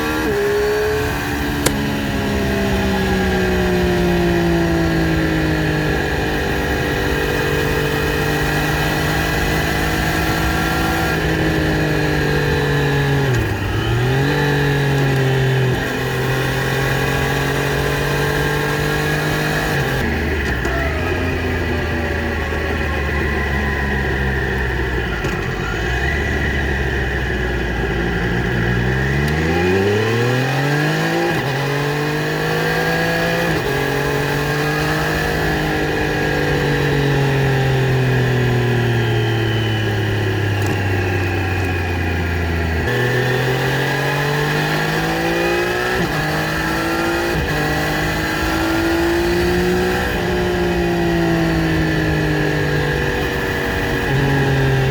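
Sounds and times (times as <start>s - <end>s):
motorcycle engine accelerating: 0.0s - 54.9s
quickshifter upshifts: 0.0s - 54.9s.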